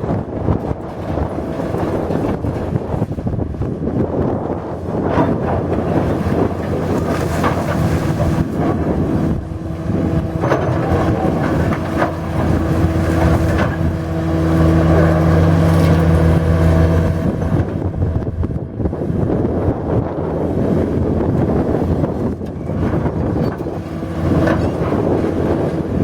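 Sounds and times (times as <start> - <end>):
heavy machine engine running: 0.0 - 26.0
wind buffeting microphone: 0.0 - 26.0.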